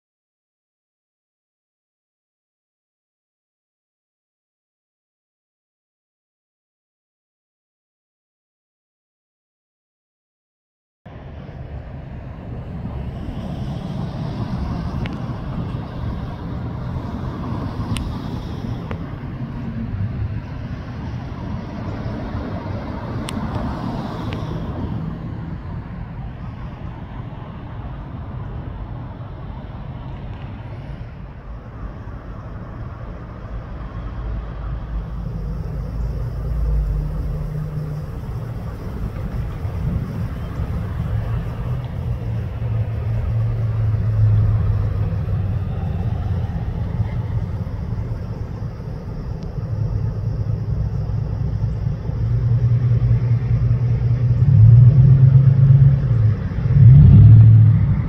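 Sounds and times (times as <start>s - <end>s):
traffic engine rumble: 11.1s - 58.0s.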